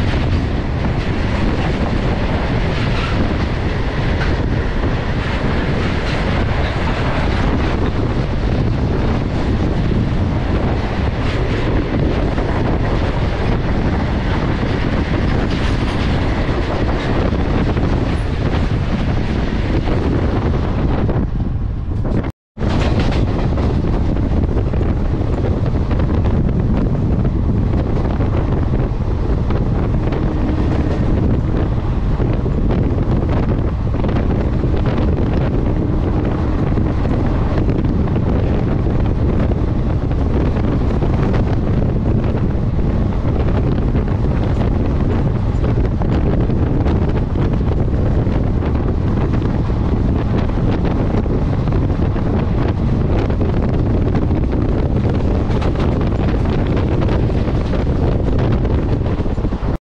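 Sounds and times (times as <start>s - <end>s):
moving train rumble: 0.0s - 59.8s
wind buffeting microphone: 0.0s - 59.8s.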